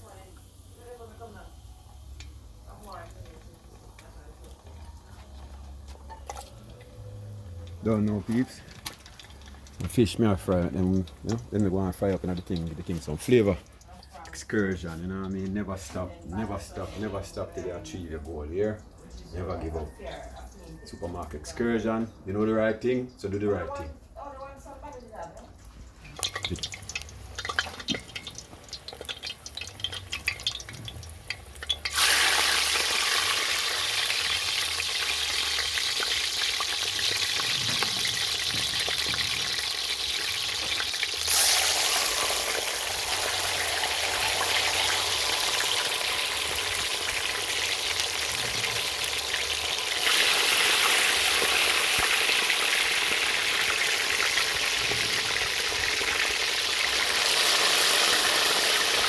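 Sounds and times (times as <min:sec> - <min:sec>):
food sizzling in hot oil: 0:00.0 - 0:17.2, 0:24.9 - 0:59.0.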